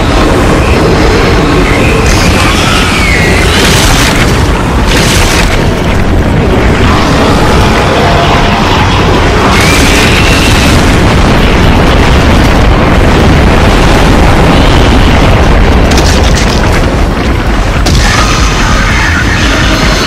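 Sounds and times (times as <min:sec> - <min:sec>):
deep booming rumble and crashing: 0:00.0 - 0:20.0.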